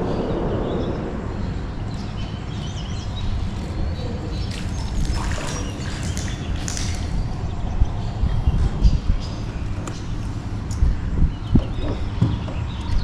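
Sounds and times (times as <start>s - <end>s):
steady low rumble: 0.0s - 13.0s
small birds chirping: 0.1s - 13.0s.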